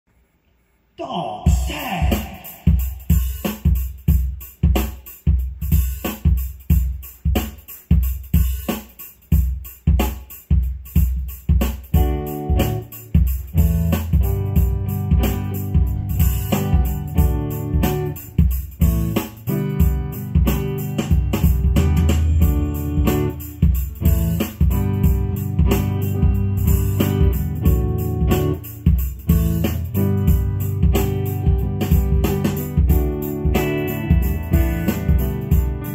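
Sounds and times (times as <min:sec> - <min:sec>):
instrumental music with steady beat: 0:01.5 - 0:35.9.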